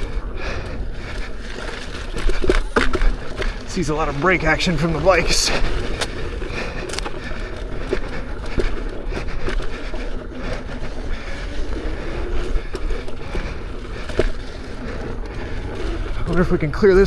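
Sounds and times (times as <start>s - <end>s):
wheel clicking and knocking on rocks: 0.0s - 17.0s
wind and ground rumble: 0.0s - 17.0s.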